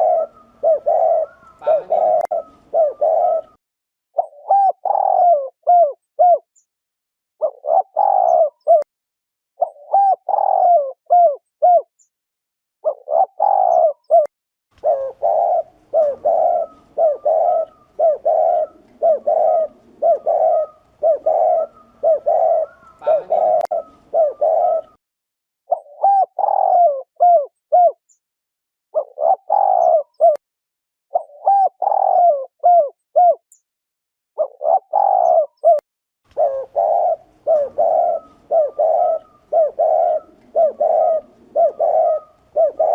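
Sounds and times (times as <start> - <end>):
dove cooing: 0.0 - 3.6, 4.2 - 6.4, 7.4 - 8.9, 9.6 - 11.9, 12.8 - 25.0, 25.7 - 28.0, 29.0 - 30.4, 31.1 - 33.4, 34.4 - 42.9.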